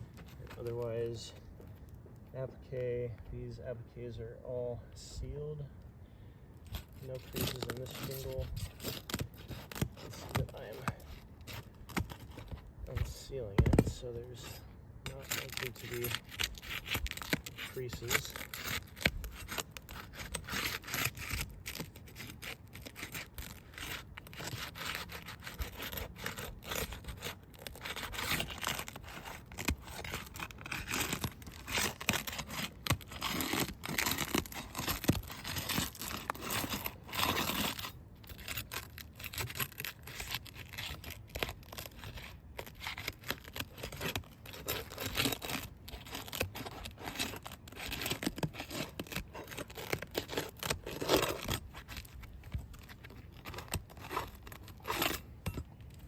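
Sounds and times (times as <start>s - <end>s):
roof shingle tearing and scraping: 0.0s - 1.9s, 6.6s - 56.0s.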